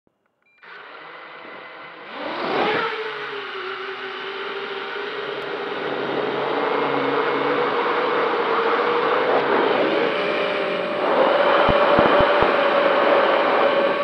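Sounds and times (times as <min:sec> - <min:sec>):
quadcopter motors whirring: 0:00.6 - 0:14.0.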